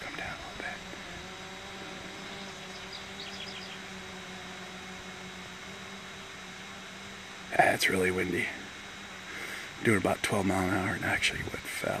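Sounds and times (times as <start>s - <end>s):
background hiss: 0.0s - 12.0s
low hum: 0.0s - 12.0s.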